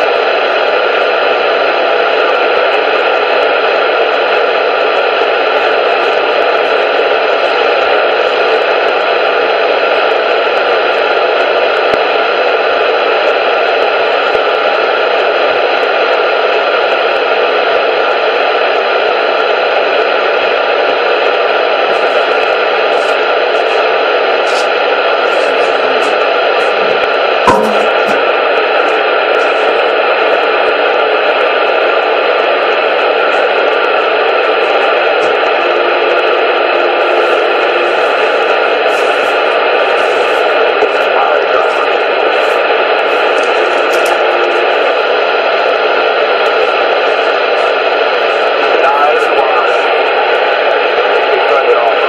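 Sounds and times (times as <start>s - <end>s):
loud static hiss: 0.0s - 52.0s.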